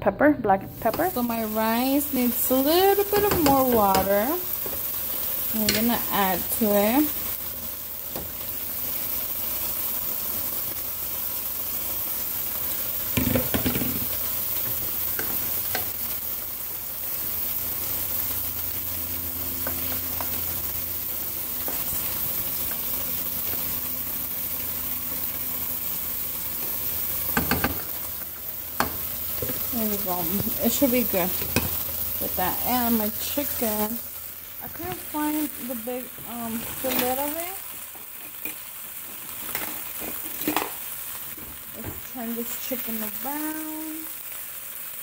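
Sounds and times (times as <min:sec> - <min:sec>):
rice cooking with steady hiss: 0:00.7 - 0:45.0.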